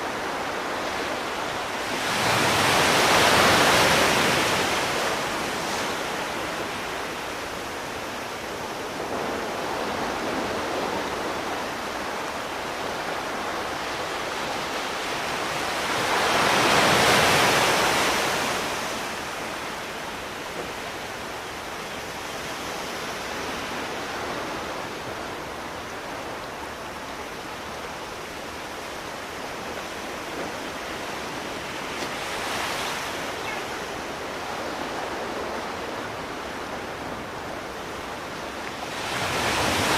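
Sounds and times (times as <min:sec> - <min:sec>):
steady hiss of surf: 0:00.0 - 0:39.9.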